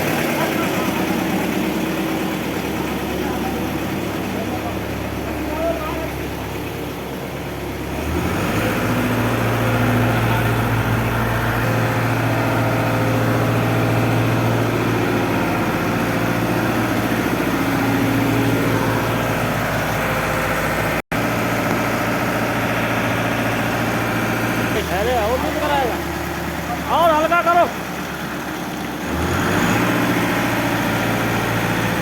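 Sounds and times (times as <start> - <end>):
heavy construction machine engine: 0.0 - 32.0.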